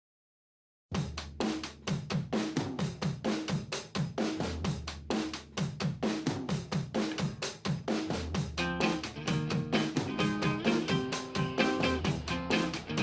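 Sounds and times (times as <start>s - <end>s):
drum kit beat: 0.9s - 13.0s.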